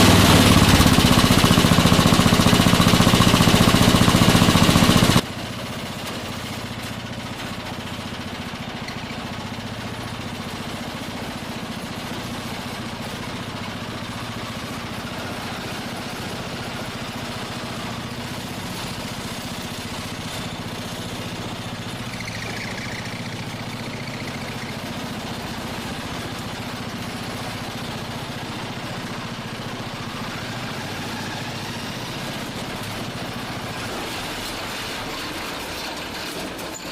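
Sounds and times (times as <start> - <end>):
kart engine idling: 0.0 - 36.9.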